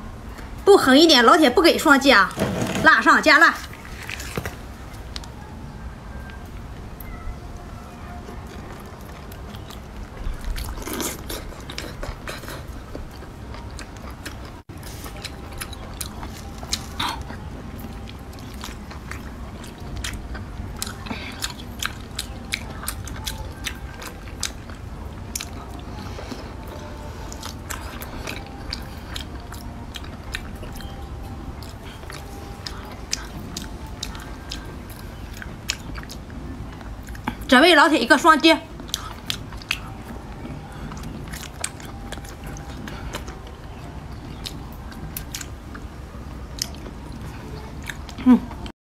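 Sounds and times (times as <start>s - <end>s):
close biting and chewing: 3.7s - 5.3s, 8.4s - 31.0s, 31.6s - 37.5s, 38.8s - 45.9s, 46.5s - 48.7s.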